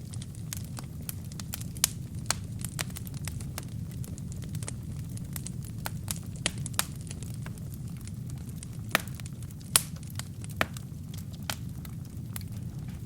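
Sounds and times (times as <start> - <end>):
fire flames rumbling: 0.0 - 13.0
logs crackling and popping: 0.0 - 13.0.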